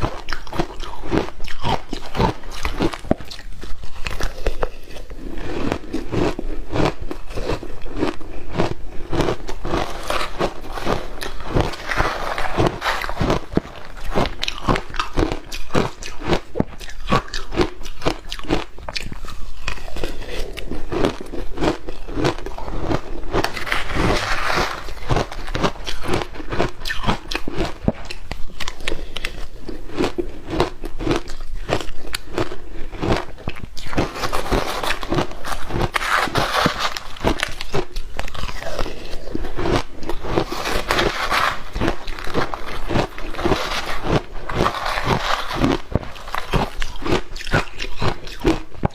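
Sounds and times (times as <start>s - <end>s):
ice crunching while chewed: 0.0s - 48.9s.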